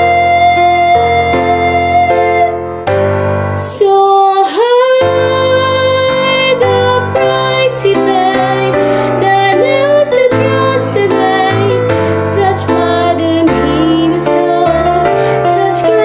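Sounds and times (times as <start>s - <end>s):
woman singing a hymn: 0.0s - 2.6s, 3.6s - 16.0s
instrumental accompaniment: 0.0s - 16.0s.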